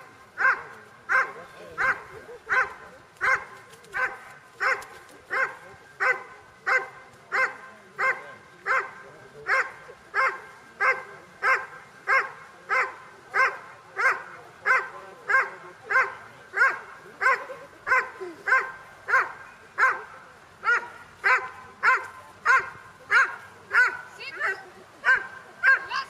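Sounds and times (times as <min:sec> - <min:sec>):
dog barking: 0:00.4 - 0:08.9, 0:09.5 - 0:26.0.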